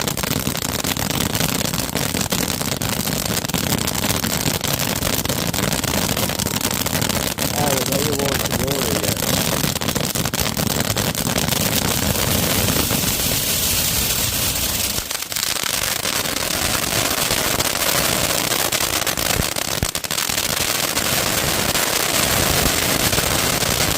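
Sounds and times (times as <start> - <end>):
firecrackers crackling: 0.0 - 23.9.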